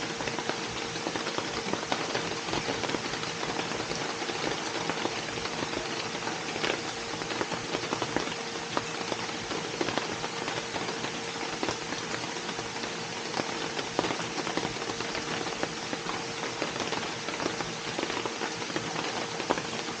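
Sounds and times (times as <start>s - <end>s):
faint steady hum: 0.0s - 20.0s
rain drops ticking on hard surface: 0.0s - 20.0s.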